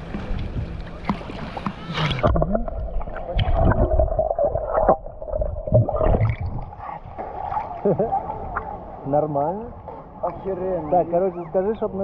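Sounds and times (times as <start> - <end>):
underwater gurgling and sloshing: 0.0 - 12.0.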